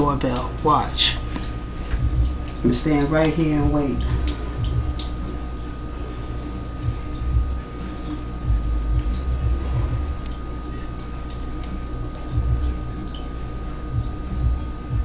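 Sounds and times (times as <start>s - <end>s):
water dripping in sink: 0.0s - 15.0s
low thumps: 1.2s - 5.8s, 6.6s - 13.1s, 13.9s - 15.0s.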